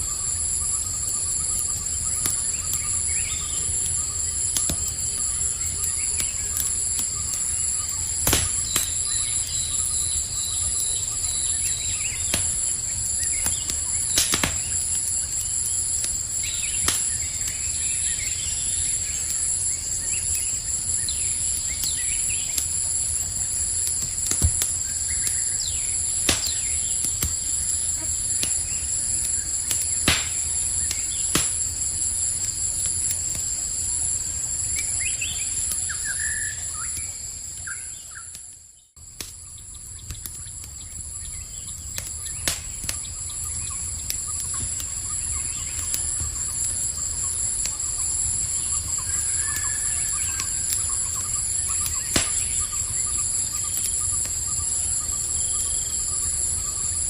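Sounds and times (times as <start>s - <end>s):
campfire crackling: 0.0s - 57.0s
night insects chorus: 0.0s - 57.0s.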